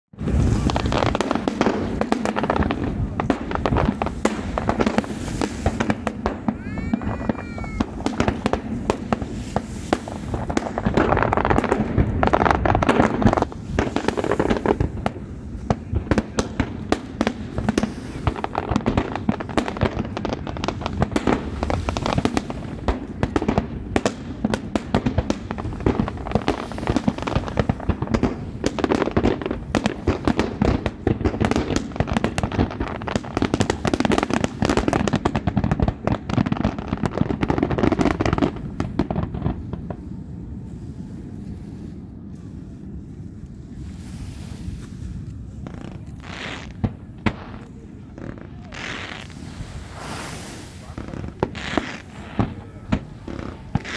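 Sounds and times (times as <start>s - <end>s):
fireworks bangs and crackling: 0.1s - 53.9s.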